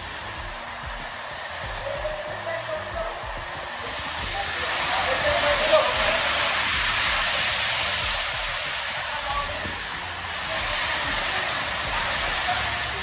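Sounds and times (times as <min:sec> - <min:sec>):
cars passing on wet road: 0:00.0 - 0:13.0
heavy rain pouring: 0:00.0 - 0:13.0.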